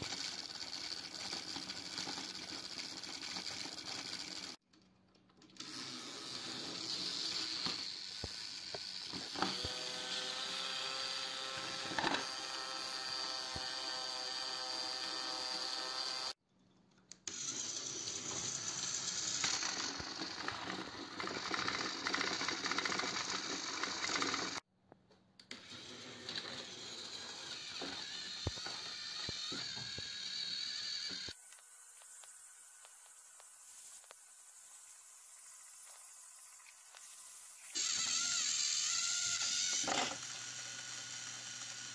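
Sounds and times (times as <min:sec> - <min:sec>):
toy train motors whirring: 0:00.0 - 0:04.6, 0:05.4 - 0:16.4, 0:17.1 - 0:24.7, 0:25.4 - 0:41.9.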